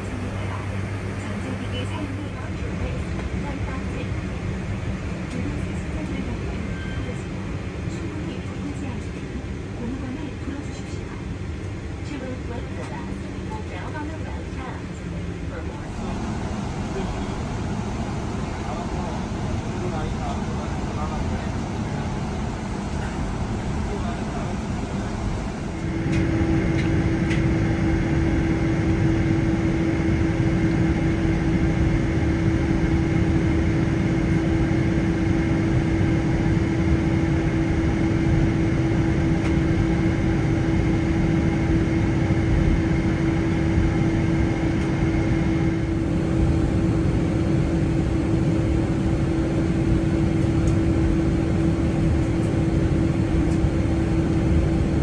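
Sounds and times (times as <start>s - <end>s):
air conditioning hum: 0.0s - 55.0s
airplane cabin engine drone: 0.0s - 55.0s.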